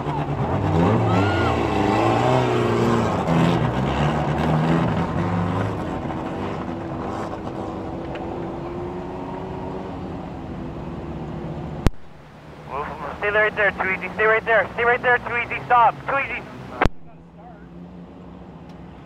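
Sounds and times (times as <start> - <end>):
race car engines running: 0.0 - 19.0.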